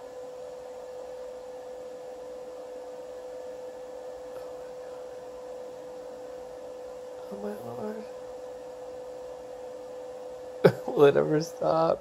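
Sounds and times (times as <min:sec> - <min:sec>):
computer fan loud buzzing drone: 0:00.0 - 0:12.0.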